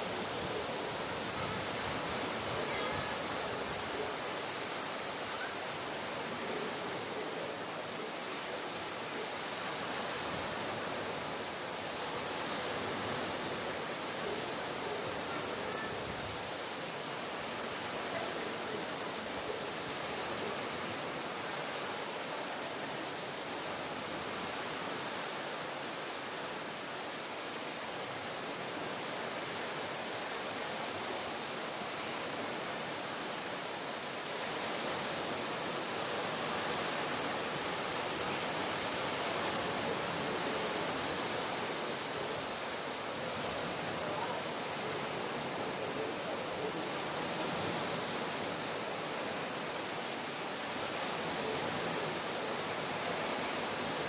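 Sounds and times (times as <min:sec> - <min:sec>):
distant sea surf hiss: 0:00.0 - 0:54.0.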